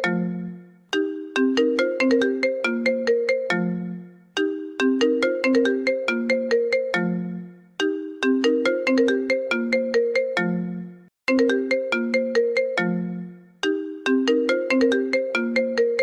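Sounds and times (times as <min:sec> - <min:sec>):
phone ringtone melody: 0:00.0 - 0:16.0.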